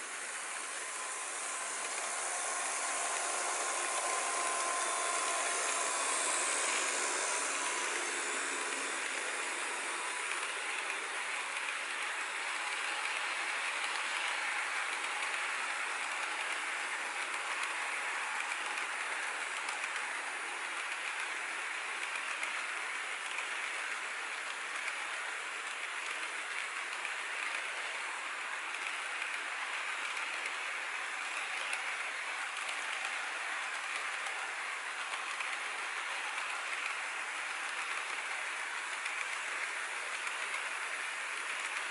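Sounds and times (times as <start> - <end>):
model train wheels rolling: 0.0 - 41.9.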